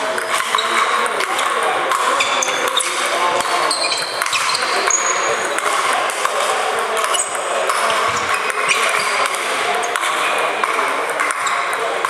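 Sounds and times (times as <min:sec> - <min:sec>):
background noise: 0:00.0 - 0:12.0.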